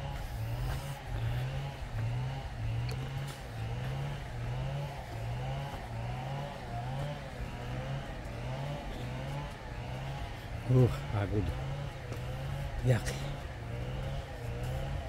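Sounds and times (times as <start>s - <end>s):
engine with wavering pitch: 0.0s - 15.0s.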